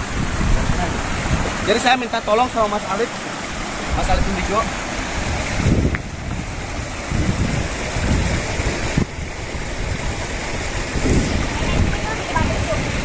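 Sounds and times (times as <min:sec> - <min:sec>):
people wading through water: 0:00.0 - 0:13.0
small waterfall: 0:00.0 - 0:13.0
stream running over rocks: 0:00.0 - 0:13.0
wind gusting on microphone: 0:00.0 - 0:13.0.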